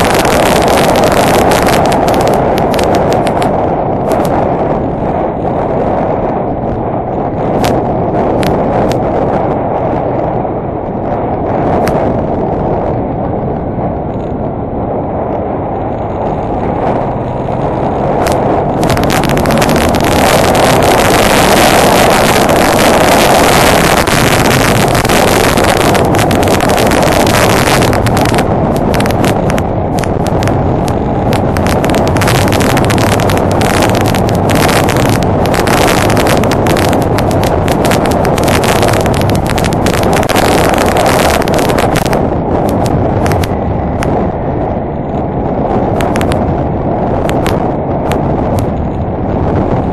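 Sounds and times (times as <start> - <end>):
motorcycle engine running: 0.0 - 5.1, 6.2 - 49.9
wind buffeting microphone: 0.0 - 49.9.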